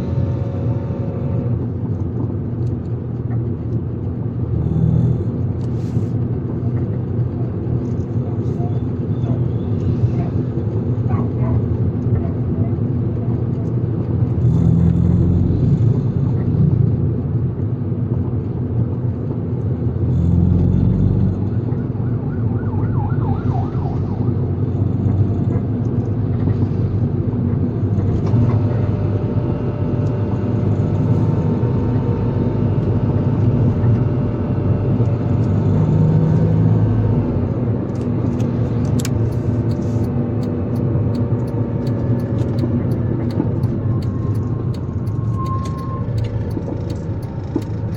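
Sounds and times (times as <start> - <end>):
vehicle engine and road rumble: 0.0 - 47.9.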